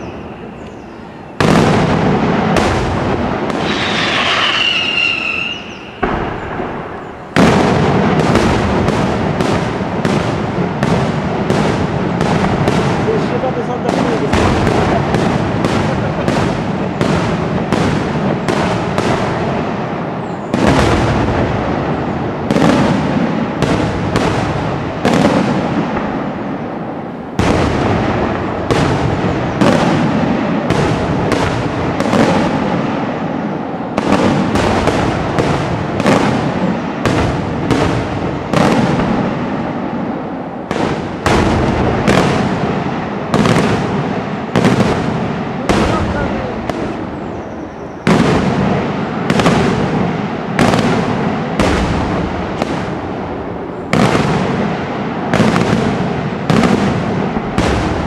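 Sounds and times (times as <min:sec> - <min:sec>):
fireworks bangs echoing: 0:00.0 - 0:58.0.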